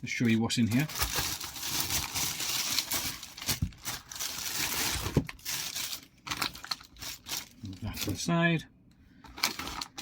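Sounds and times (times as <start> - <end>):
packaging crinkling and rustling: 0.0 - 8.4, 9.2 - 10.0.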